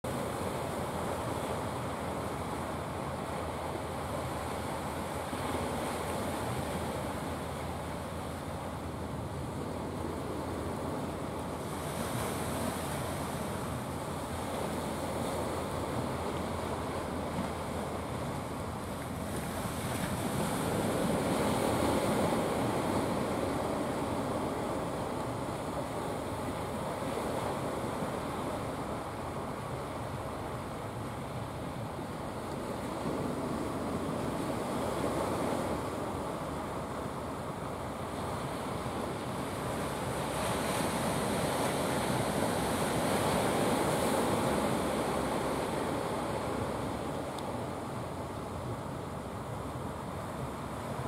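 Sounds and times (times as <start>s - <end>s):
sea surf washing onto beach: 0.1s - 51.0s.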